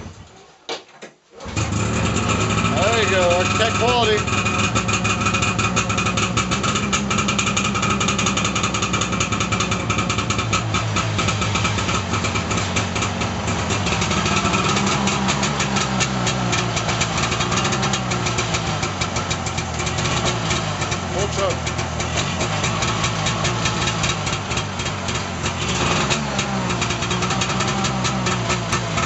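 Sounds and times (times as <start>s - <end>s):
two-stroke engine running: 1.4s - 29.0s.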